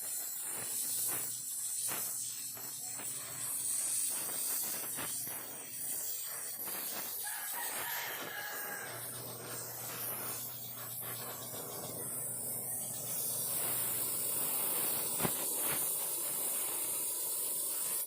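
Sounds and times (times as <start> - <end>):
welding torch flame hissing: 0.0 - 18.0.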